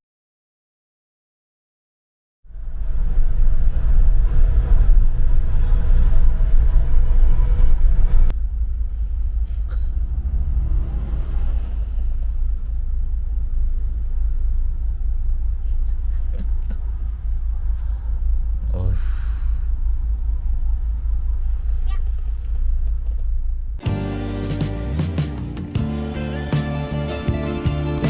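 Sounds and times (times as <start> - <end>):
motor vehicle rumble: 2.5 - 28.0.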